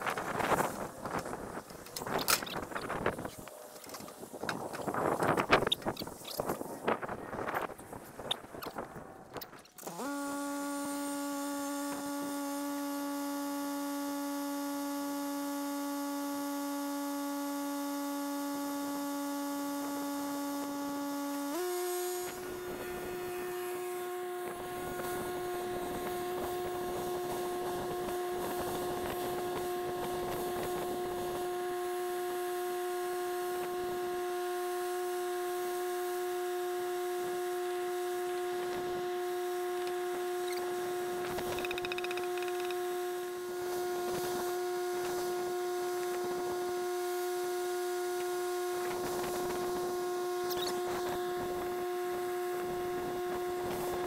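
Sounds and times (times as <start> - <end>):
steady hum with overtones: 0.0 - 54.0.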